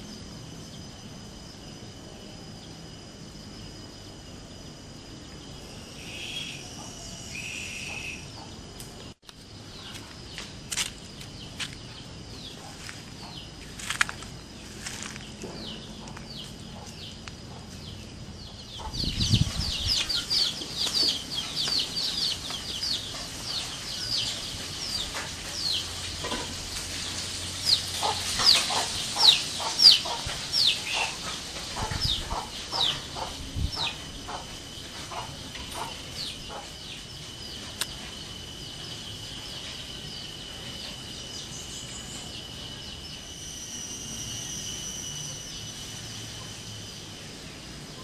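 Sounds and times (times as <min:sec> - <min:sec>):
insects droning: 0:00.0 - 0:48.0
birds chirping: 0:05.2 - 0:48.0.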